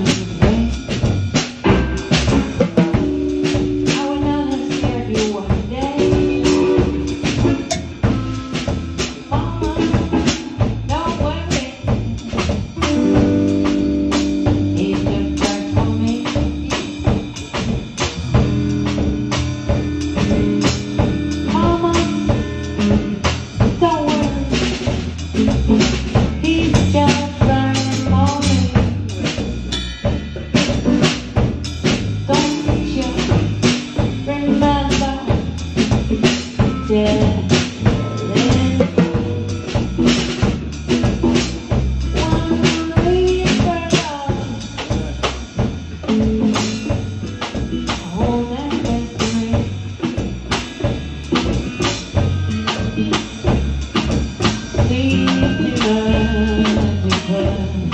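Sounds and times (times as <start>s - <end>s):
band playing: 0.0s - 57.9s
drum kit beat: 0.0s - 57.9s.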